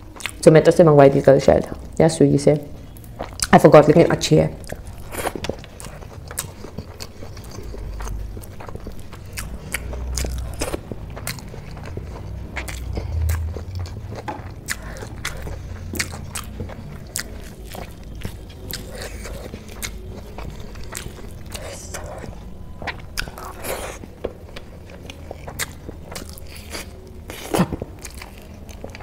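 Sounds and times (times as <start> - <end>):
chewing and wet mouth clicks: 0.1 - 0.4, 2.9 - 3.6, 4.6 - 29.0.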